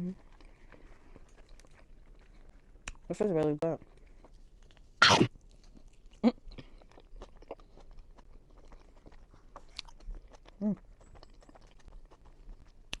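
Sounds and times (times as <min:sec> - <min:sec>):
person chewing pizza: 0:00.0 - 0:03.1, 0:03.8 - 0:13.0.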